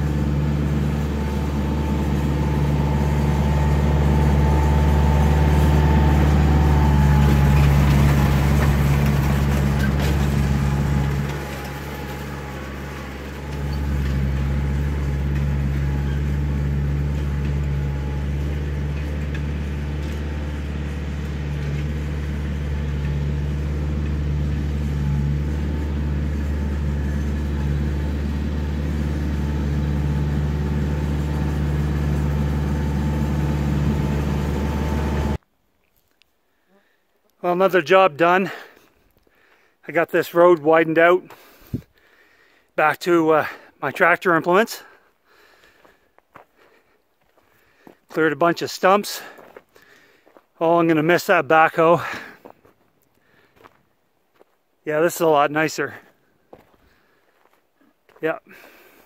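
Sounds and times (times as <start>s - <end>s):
diesel engine running: 0.0s - 35.4s, 37.5s - 53.8s, 54.9s - 59.0s.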